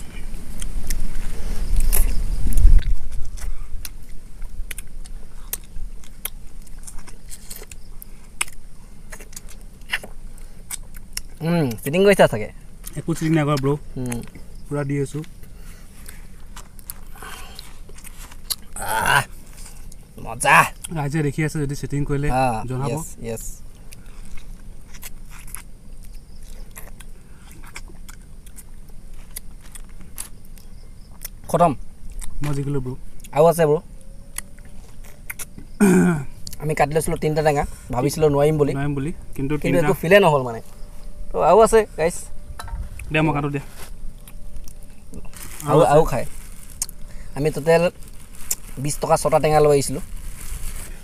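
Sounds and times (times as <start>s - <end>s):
mouth clicks and crunches: 0.0s - 12.1s, 12.7s - 21.0s, 23.7s - 33.4s, 34.0s - 37.7s, 42.6s - 51.0s
low steady rumble: 0.0s - 51.0s.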